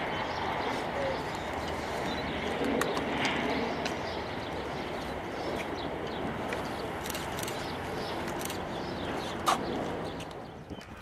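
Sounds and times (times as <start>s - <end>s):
distant jet aircraft rush: 0.0s - 11.0s.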